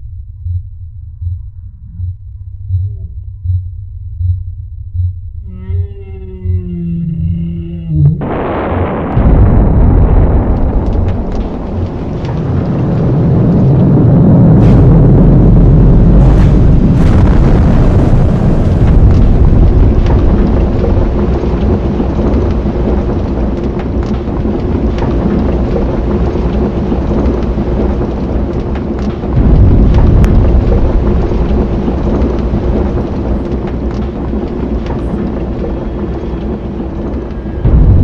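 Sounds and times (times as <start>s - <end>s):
deep continuous rumbling: 0.0s - 38.0s.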